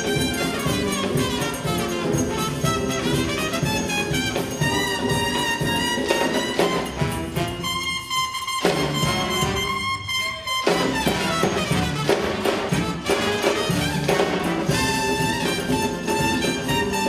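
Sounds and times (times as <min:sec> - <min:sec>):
bass: 0:00.0 - 0:17.0
drums: 0:00.0 - 0:17.0
saxophone and trumpets: 0:00.0 - 0:17.0.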